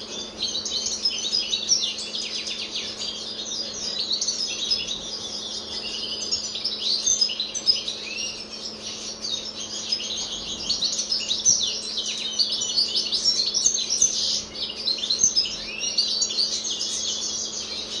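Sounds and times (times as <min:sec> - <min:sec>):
goldfinch twittering song: 0:00.0 - 0:18.0.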